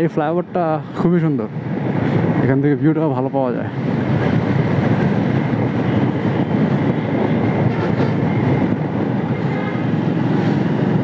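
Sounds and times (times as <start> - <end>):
tyres on road: 0.0 - 11.0
wind rushing over microphone: 0.0 - 11.0.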